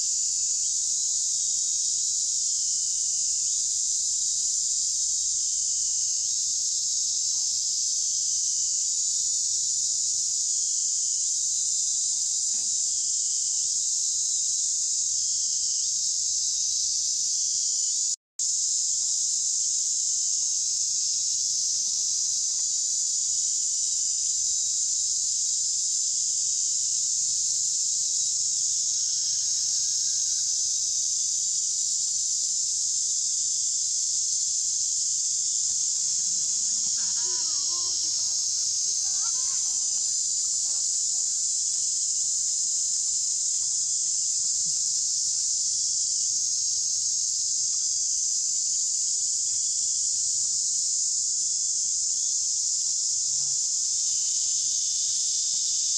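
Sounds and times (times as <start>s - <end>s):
insects buzzing: 0.0s - 55.9s.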